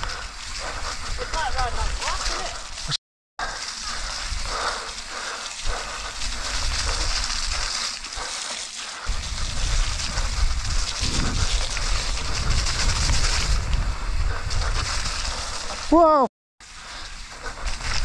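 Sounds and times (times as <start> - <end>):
bicycle tyres hissing on wet trail: 0.0 - 18.0.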